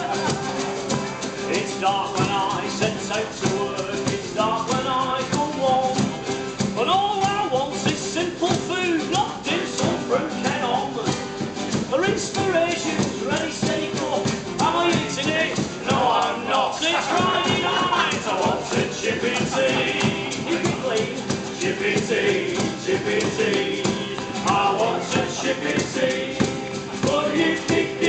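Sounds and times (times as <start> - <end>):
people singing: 0.0 - 11.2, 11.9 - 28.0
acoustic guitar strumming: 0.0 - 28.0.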